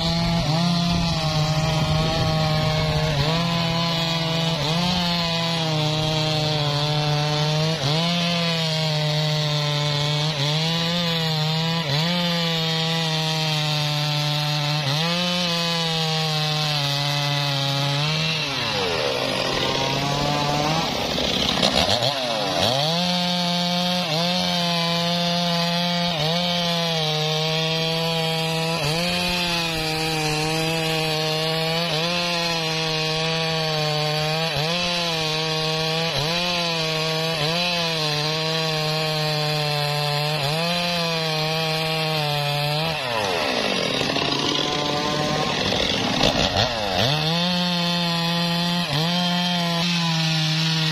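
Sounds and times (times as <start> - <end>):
chainsaw cutting through log: 0.0 - 50.9
chainsaw engine revving freely: 0.0 - 50.9.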